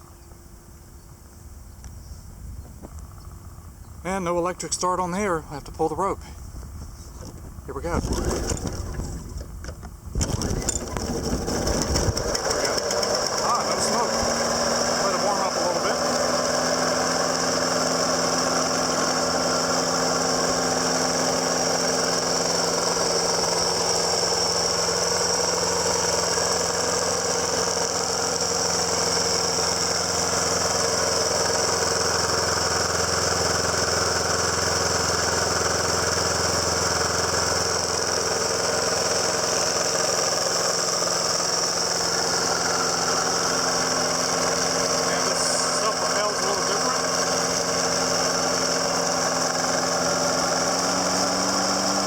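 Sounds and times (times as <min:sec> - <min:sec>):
lawn mower engine running: 0:02.7 - 0:52.0.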